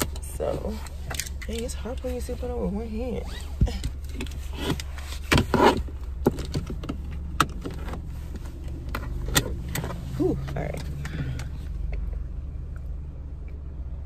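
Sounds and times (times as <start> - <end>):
clicks and rustles in seat: 0.0 - 12.2
car engine idling hum: 0.0 - 14.0.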